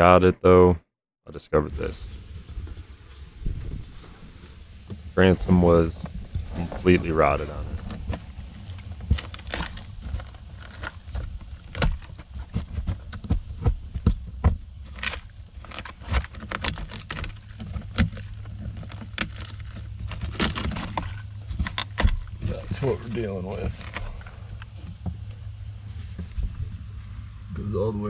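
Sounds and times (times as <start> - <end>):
low steady rumble: 0.0 - 28.0
rotted wood crackling and snapping: 3.5 - 27.0.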